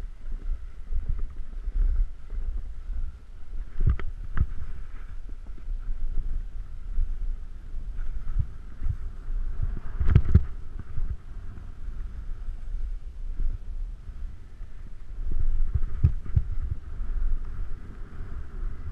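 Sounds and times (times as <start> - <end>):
wind rumbling on microphone: 0.0 - 18.9.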